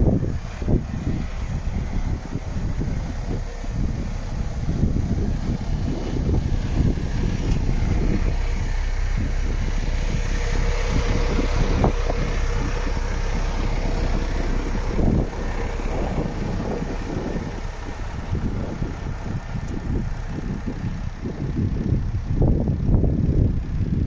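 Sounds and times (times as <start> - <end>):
diesel truck engine idling: 0.0 - 24.0
wind buffeting microphone: 0.0 - 24.0.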